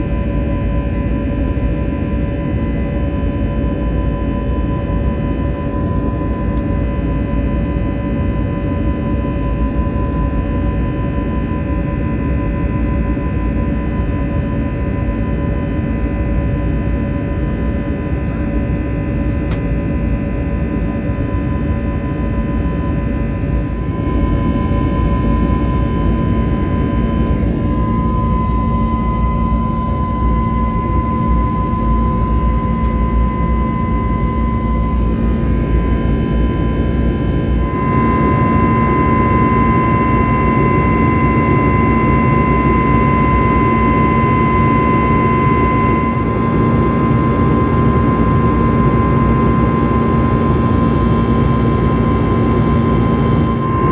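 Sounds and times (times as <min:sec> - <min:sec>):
jet engine roar: 0:00.0 - 0:16.6, 0:17.3 - 0:53.9
engine whine: 0:00.0 - 0:53.9.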